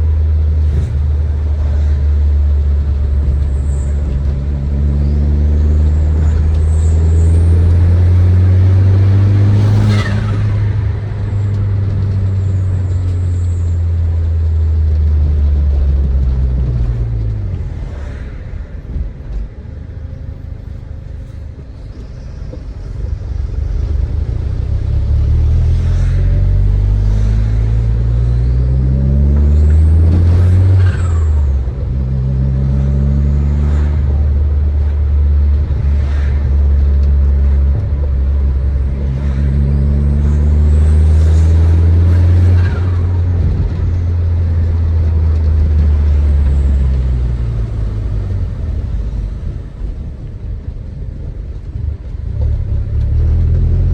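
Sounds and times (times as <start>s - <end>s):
car engine accelerating hard: 0.0s - 18.3s, 22.6s - 53.9s.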